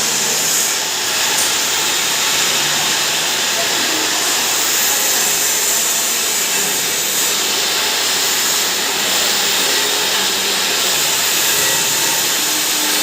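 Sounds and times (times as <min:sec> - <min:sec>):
pulverizer grinding: 0:00.0 - 0:13.0.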